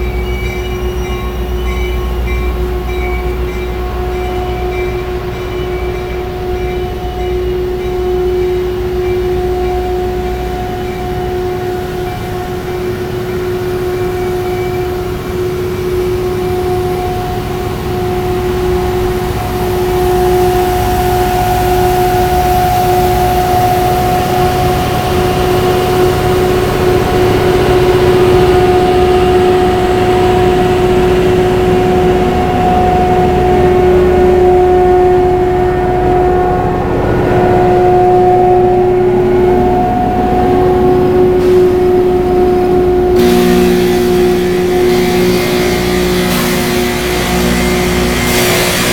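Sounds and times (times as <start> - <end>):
rail grinding train whine: 0.0 - 48.9.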